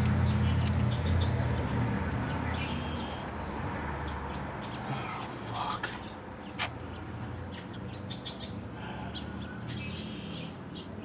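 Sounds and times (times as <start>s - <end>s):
bird chirping: 0.0s - 11.0s
vehicle engine humming: 0.0s - 11.0s.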